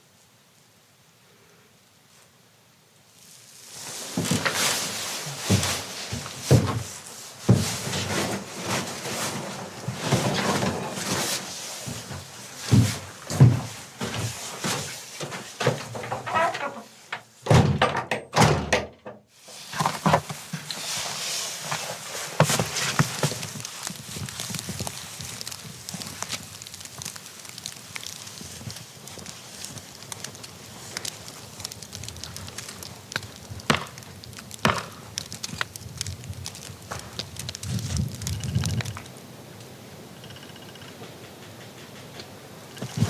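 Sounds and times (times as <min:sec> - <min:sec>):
rough rustling: 0:03.1 - 0:17.4, 0:19.3 - 0:39.2, 0:41.1 - 0:43.0.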